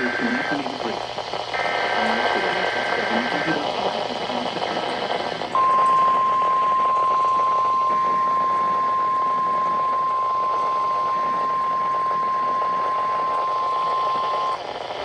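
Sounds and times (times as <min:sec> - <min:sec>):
steady alarm tone: 0:00.0 - 0:15.0.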